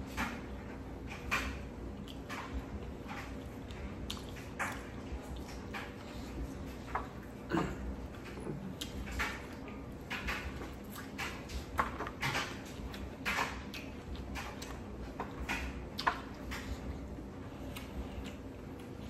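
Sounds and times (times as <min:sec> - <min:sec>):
person chewing food: 0:01.2 - 0:19.0.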